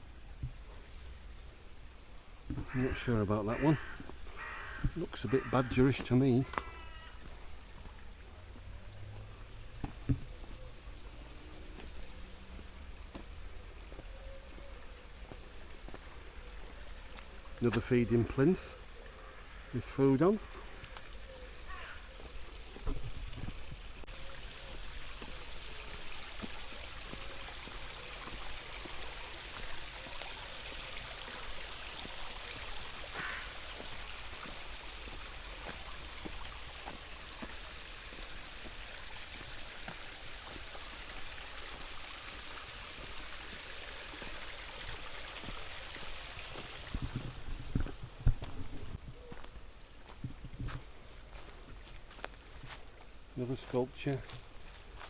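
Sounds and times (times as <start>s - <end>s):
stream water rushing: 0.8s - 19.0s, 20.0s - 47.8s.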